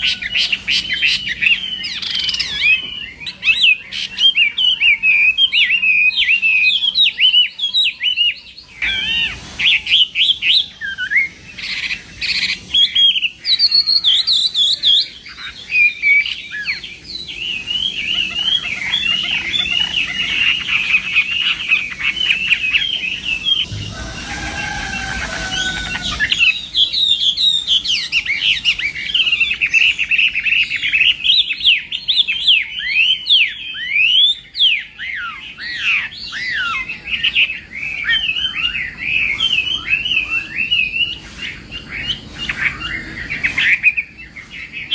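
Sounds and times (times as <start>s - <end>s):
bird singing whistled trills: 0.0s - 44.9s.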